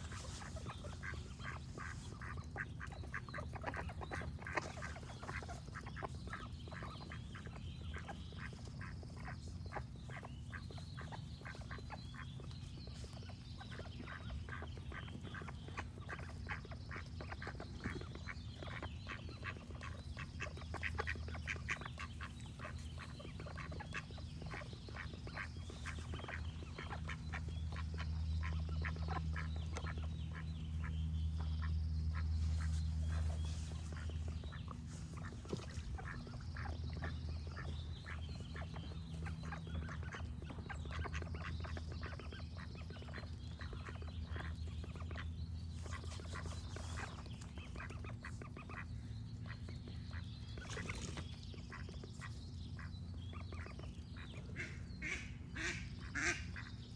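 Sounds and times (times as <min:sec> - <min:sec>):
ducks quacking: 0:00.0 - 0:56.9.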